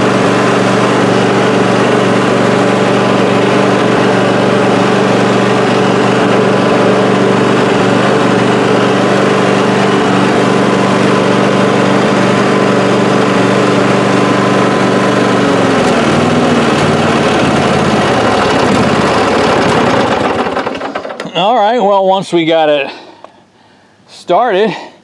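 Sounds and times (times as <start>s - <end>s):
lawn tractor engine running: 0.0s - 21.9s.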